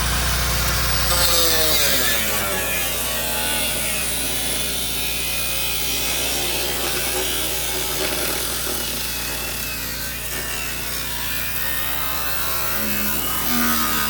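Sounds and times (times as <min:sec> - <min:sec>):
power tool cutting: 0:00.0 - 0:14.0.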